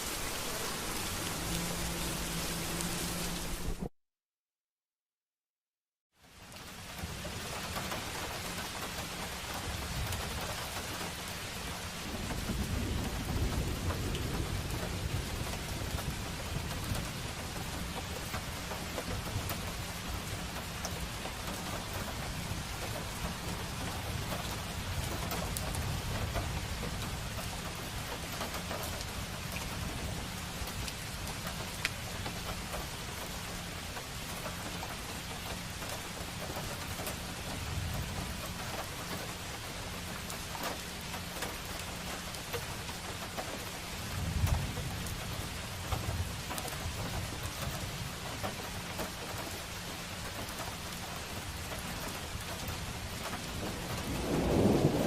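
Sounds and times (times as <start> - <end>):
rain falling on street: 0.0 - 3.9, 6.2 - 55.0.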